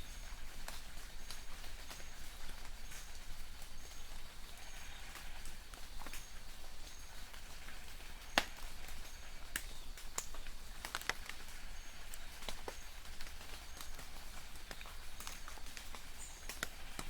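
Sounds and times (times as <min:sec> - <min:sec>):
light rain hissing: 0:00.0 - 0:17.0
raindrops ticking: 0:00.0 - 0:17.0.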